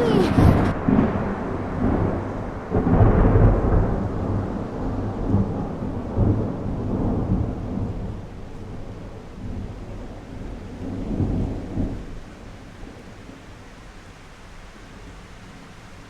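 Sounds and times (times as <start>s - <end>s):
heavy rain and hail: 0.0s - 16.0s.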